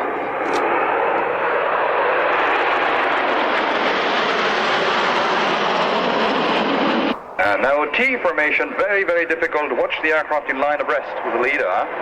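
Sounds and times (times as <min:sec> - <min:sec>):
jet aircraft flypast: 0:00.0 - 0:12.0.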